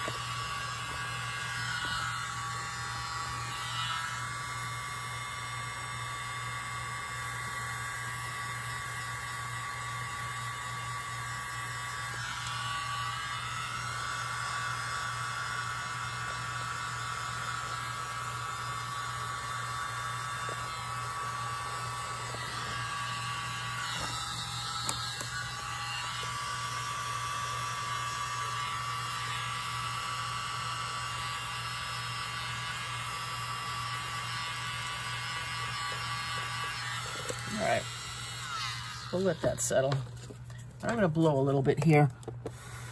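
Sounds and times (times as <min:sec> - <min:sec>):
small electric motor whirring: 0:00.0 - 0:42.9.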